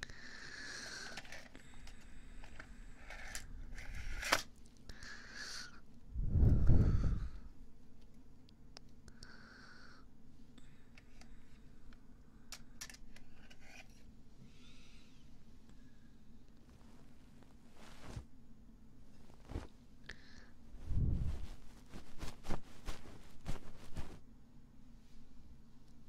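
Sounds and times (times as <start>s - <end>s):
soft breaths near microphone: 0.0s - 7.7s, 9.0s - 18.4s, 19.1s - 26.0s.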